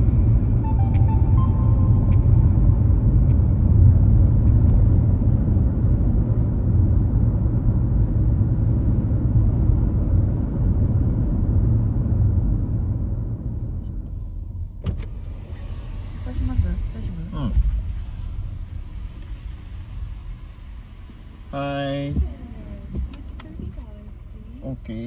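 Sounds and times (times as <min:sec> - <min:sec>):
car road rumble from inside: 0:00.0 - 0:25.0.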